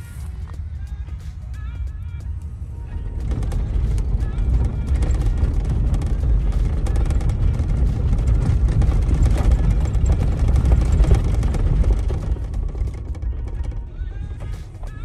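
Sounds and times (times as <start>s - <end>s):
vehicle rumbling on dirt road: 0.0s - 15.0s
knocks and rattles in cab: 2.9s - 15.0s.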